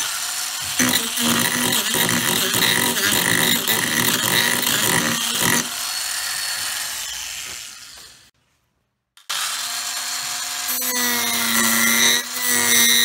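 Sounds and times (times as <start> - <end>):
angle grinder cutting wood: 0.0 - 8.3, 9.2 - 13.0.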